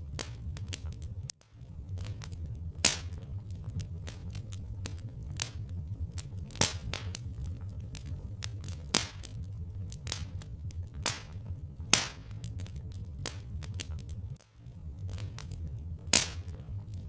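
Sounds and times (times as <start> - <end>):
steady low rumble: 0.0 - 17.0
wood fire crackling: 0.0 - 17.0.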